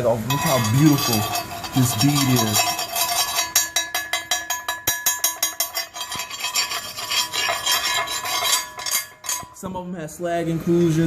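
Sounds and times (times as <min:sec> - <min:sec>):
metal tool scraping weld slag: 0:00.3 - 0:09.6.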